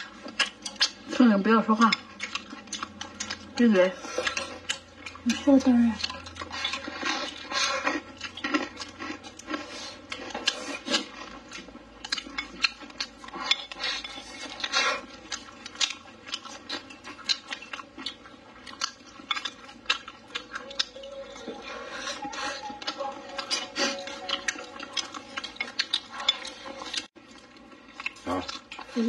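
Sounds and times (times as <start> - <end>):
chewing: 0.0 - 29.0.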